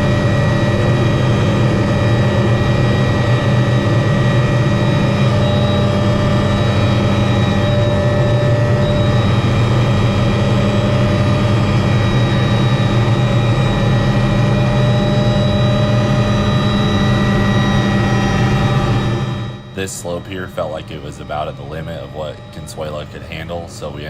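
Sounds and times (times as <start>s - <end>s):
helicopter engine hum and whine: 0.0s - 24.0s.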